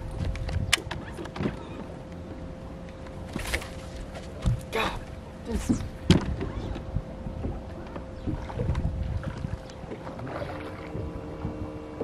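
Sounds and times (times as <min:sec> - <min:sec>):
wind rumbling on microphone: 0:00.0 - 0:02.0, 0:03.3 - 0:12.0.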